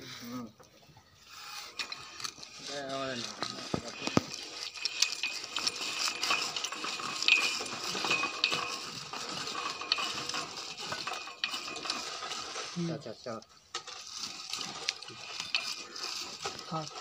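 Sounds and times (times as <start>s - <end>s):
metallic clinks and rattles: 1.7s - 17.0s.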